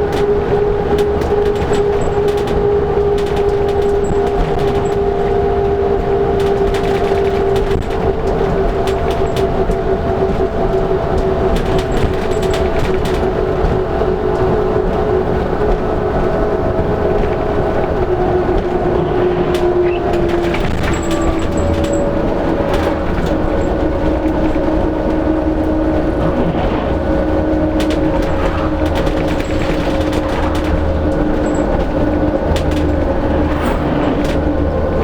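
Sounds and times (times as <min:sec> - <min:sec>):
body rattles: 0:00.0 - 0:35.0
bus engine whine: 0:00.0 - 0:35.0
road rumble: 0:00.0 - 0:35.0.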